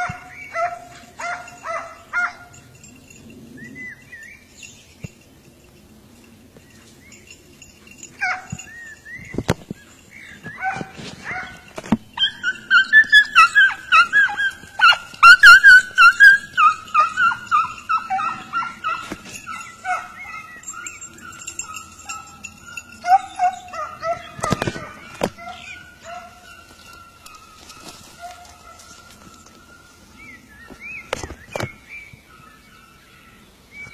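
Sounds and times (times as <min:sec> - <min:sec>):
hounds baying high-pitched yelps: 0:00.0 - 0:04.3, 0:07.6 - 0:30.5.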